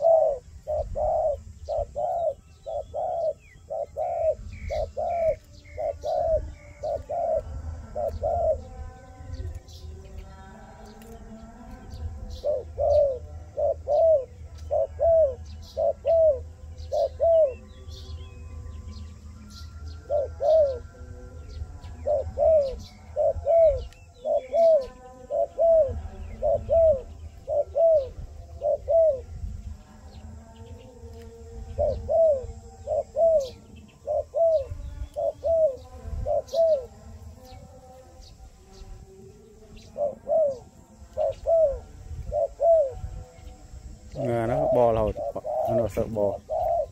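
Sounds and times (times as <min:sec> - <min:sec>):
doves cooing: 0:00.0 - 0:46.9.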